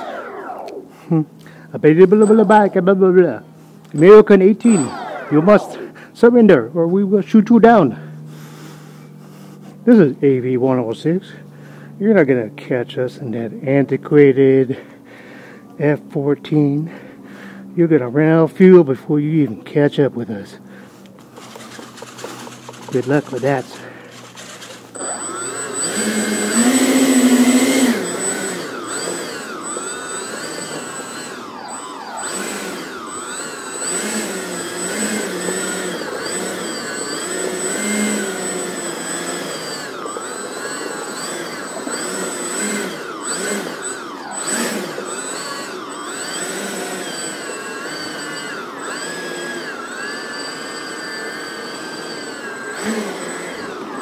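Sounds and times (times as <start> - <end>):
electric ducted fans whining: 0.0 - 54.0.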